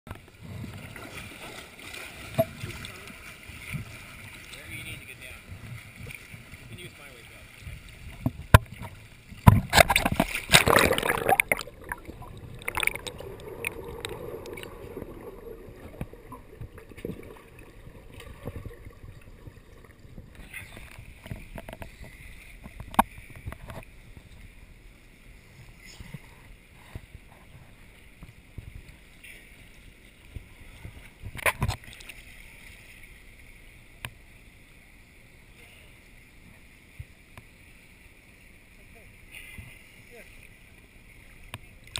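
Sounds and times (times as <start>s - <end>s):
pool water splashing: 0.1s - 41.9s.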